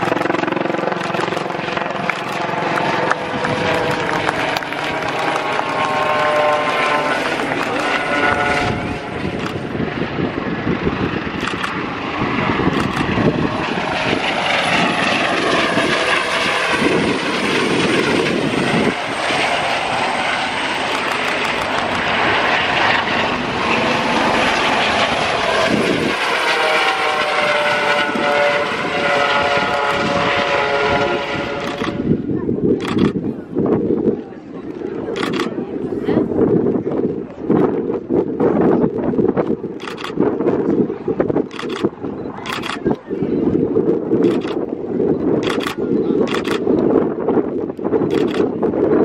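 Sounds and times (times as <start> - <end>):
plane engines flying past: 0.0 - 49.0.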